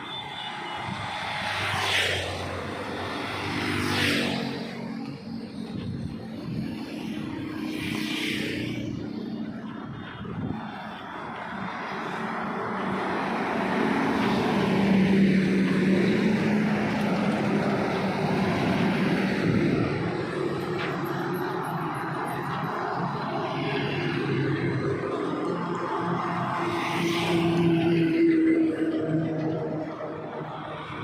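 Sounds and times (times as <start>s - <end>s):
heavy truck passing: 0.0s - 31.0s.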